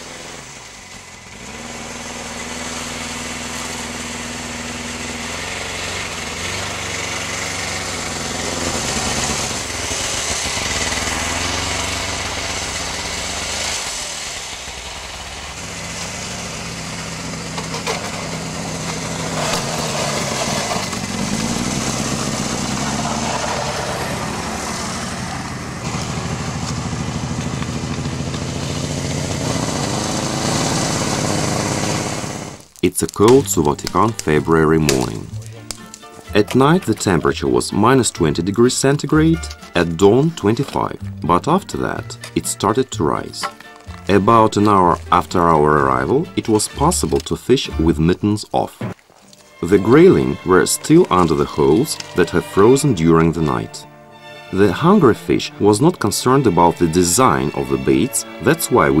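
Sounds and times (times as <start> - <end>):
snowmobile engine revving: 0.0 - 48.6, 49.6 - 59.0.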